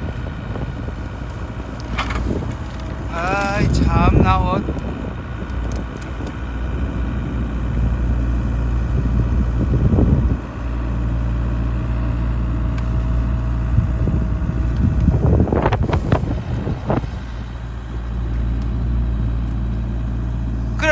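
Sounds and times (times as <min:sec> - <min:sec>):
excavator engine running: 0:00.0 - 0:20.9
faint steady whine: 0:00.0 - 0:20.9
rattling and crackling: 0:00.0 - 0:20.9.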